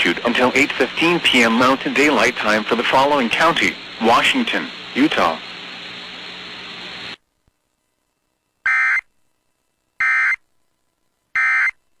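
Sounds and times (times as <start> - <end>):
broadcast hiss: 0.0 - 12.0.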